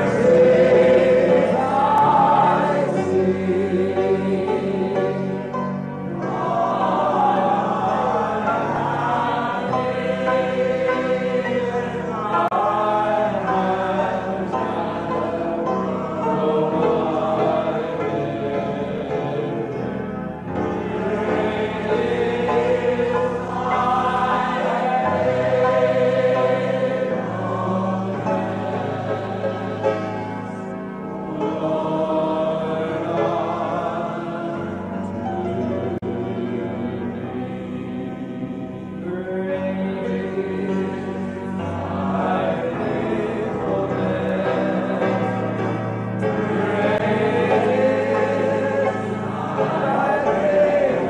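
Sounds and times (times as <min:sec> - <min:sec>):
congregation singing: 0:00.0 - 0:51.0
low held accompaniment notes: 0:00.0 - 0:51.0
sustained chords: 0:00.0 - 0:51.0.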